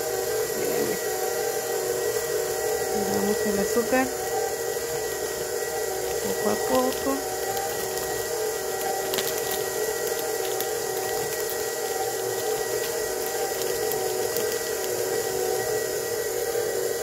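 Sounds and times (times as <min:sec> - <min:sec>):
stand mixer motor whine: 0:00.0 - 0:17.0
whisk beating in steel bowl: 0:00.0 - 0:17.0.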